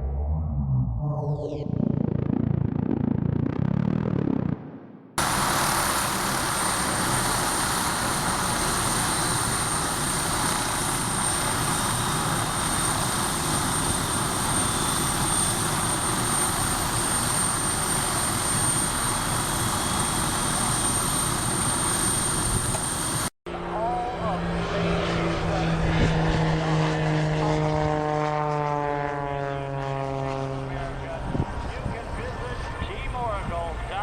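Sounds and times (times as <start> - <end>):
high turbine whine: 0.0 - 34.0
helicopter engine and rotor: 5.2 - 34.0.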